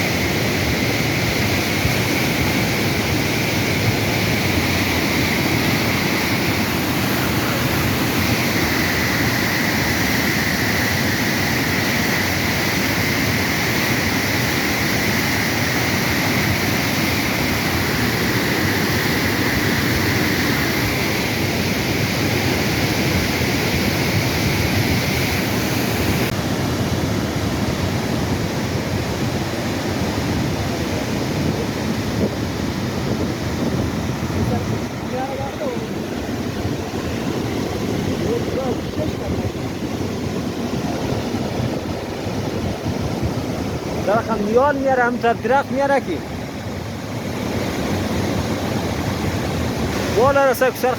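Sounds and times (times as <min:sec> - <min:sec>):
wind on microphone: 0:00.0 - 0:50.4
floodwater rushing: 0:00.0 - 0:50.9.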